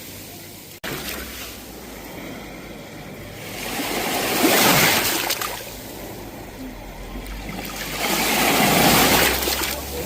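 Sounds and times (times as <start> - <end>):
sea waves breaking on shore: 0.8 - 6.5, 7.1 - 10.0.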